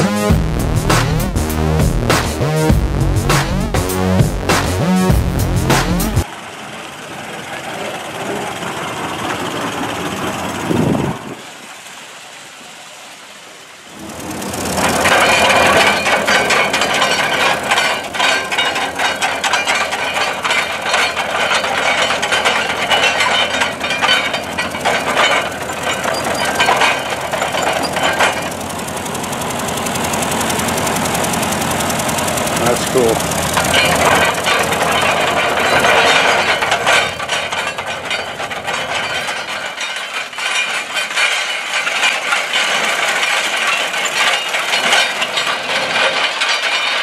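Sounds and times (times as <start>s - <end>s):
tractor engine clattering: 0.0s - 6.3s, 6.9s - 11.3s, 13.9s - 47.0s.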